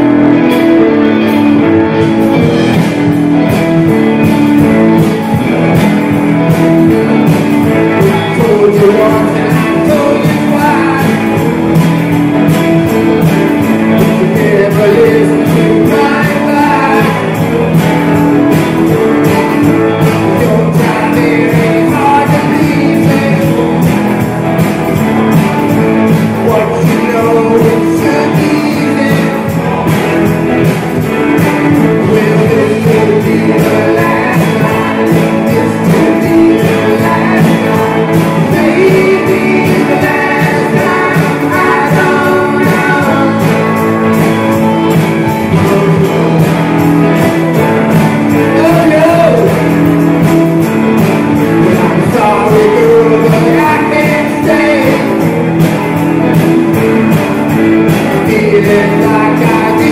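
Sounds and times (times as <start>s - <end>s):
rock and roll band playing: 0.0s - 59.9s.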